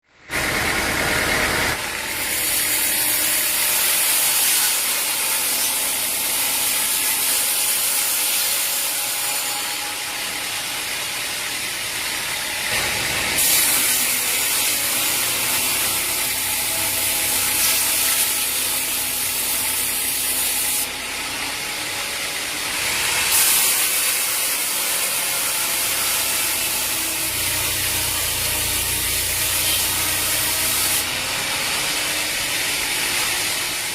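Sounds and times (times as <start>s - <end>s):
saw blade cutting wood: 0.2s - 33.9s.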